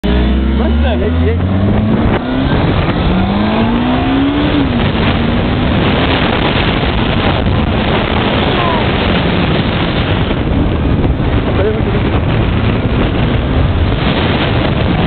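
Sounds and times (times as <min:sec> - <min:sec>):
motorcycle engine accelerating: 0:00.0 - 0:15.0
steady rush of noise: 0:00.0 - 0:15.0.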